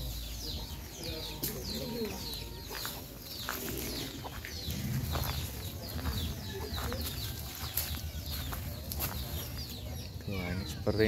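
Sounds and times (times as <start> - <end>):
chickens and birds chirping: 0.0 - 11.0.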